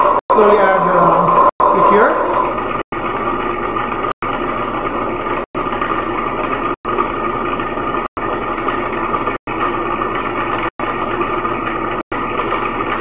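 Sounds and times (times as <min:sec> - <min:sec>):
stone grinder mechanical hum: 0:00.0 - 0:13.0.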